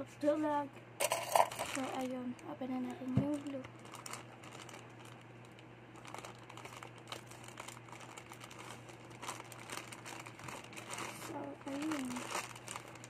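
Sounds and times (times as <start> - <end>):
steady low hum: 0.0 - 13.0
plastic pouch crinkling: 1.0 - 13.0.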